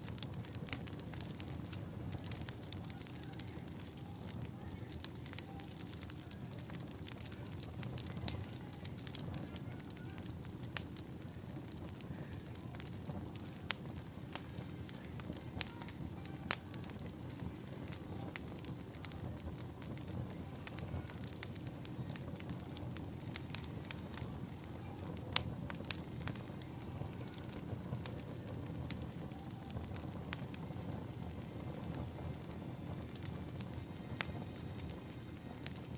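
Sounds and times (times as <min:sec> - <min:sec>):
fireplace crackling: 0:00.0 - 0:35.9.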